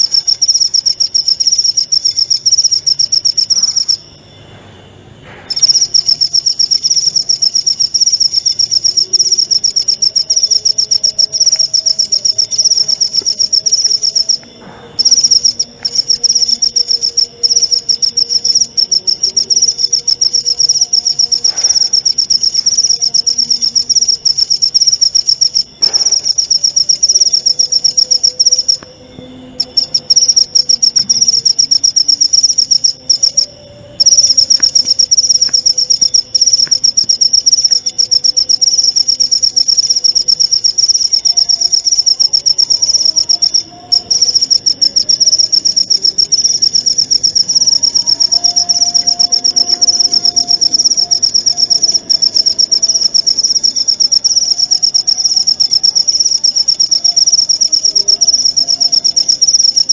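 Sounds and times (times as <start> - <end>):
cricket trilling: 0.0 - 59.9.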